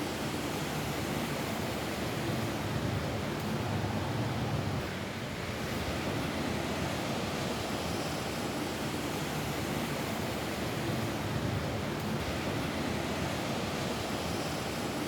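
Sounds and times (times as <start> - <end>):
steady rain on a roof: 0.0 - 15.0.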